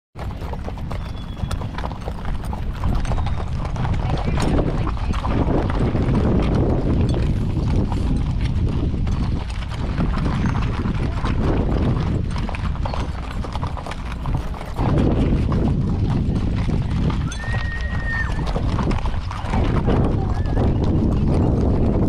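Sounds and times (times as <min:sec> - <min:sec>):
hooves clip-clopping on dirt: 0:00.2 - 0:22.0.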